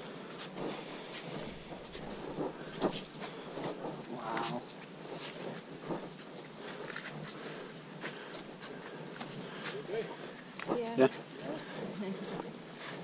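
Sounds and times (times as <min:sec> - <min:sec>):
footsteps on muddy forest trail: 0:00.0 - 0:13.0.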